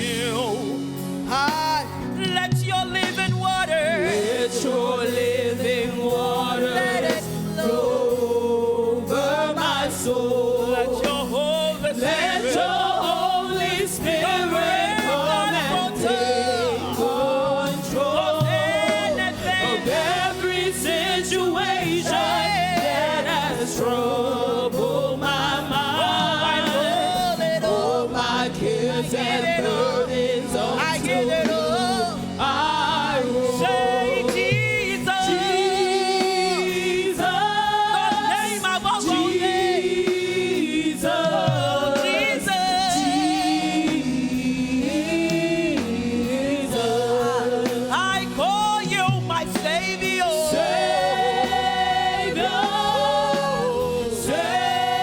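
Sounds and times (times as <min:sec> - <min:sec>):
live band accompaniment: 0:00.0 - 0:55.0
people singing worship melody: 0:00.0 - 0:55.0.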